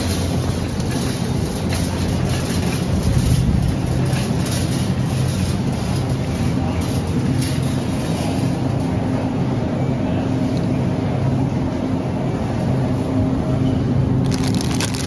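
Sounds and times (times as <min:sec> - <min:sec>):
refrigerated cases humming: 0:00.0 - 0:15.0.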